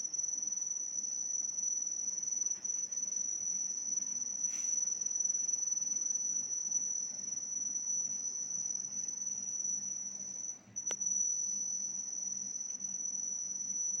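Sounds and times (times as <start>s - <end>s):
air conditioner whine: 0.0s - 14.0s.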